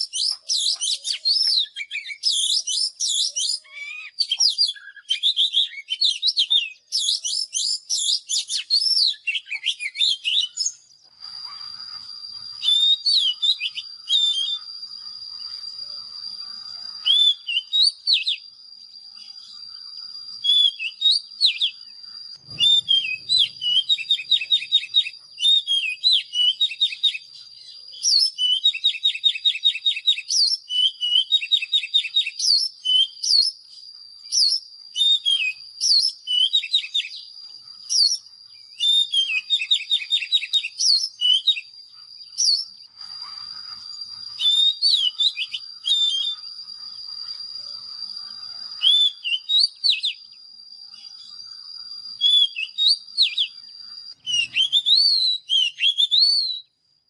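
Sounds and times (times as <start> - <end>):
bird singing whistled phrases: 0.0 - 56.8.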